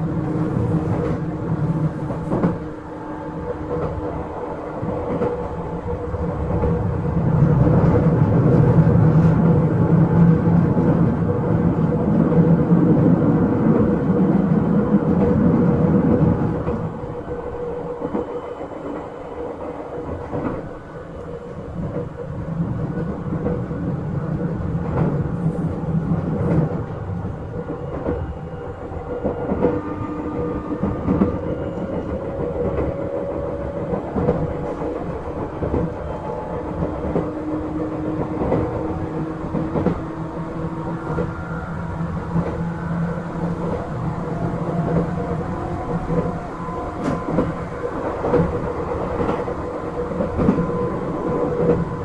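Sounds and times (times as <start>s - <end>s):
electric train running: 0.0s - 52.0s.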